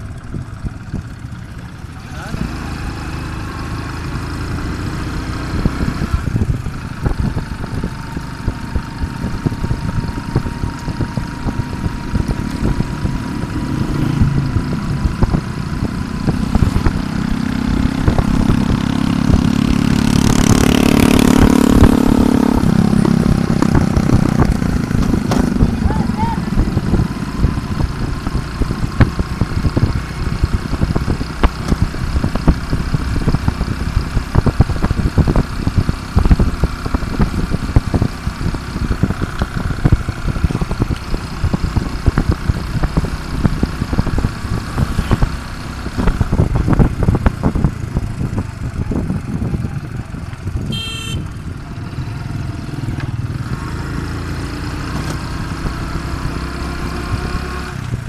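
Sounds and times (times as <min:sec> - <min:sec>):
small motorcycle engine running: 0:00.0 - 0:58.0
wind buffeting microphone: 0:04.6 - 0:54.0.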